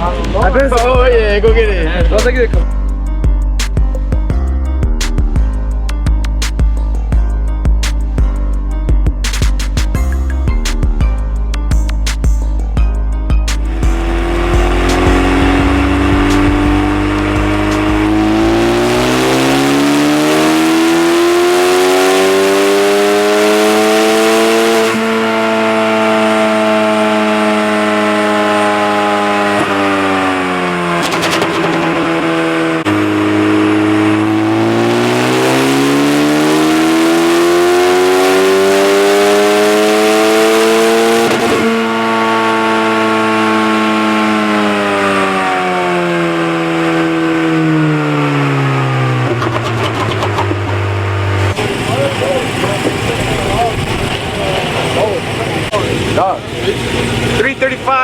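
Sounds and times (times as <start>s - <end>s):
car engine revving at full throttle: 0.0s - 58.0s.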